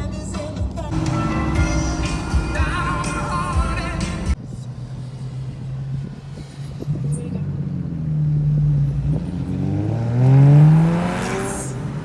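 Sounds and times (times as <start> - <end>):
car engine accelerating: 0.9 - 12.0.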